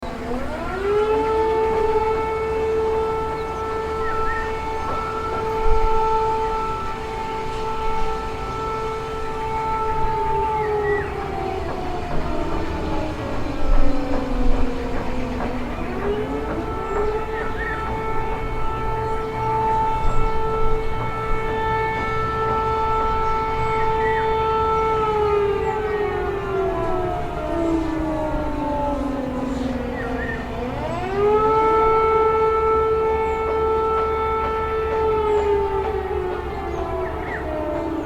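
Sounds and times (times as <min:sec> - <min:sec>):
siren steady tone: 0:00.0 - 0:38.0.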